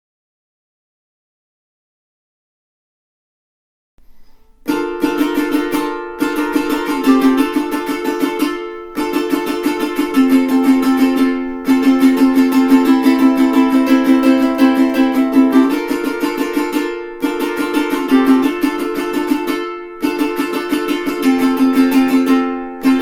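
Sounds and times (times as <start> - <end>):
ukulele strumming: 4.0 - 23.0.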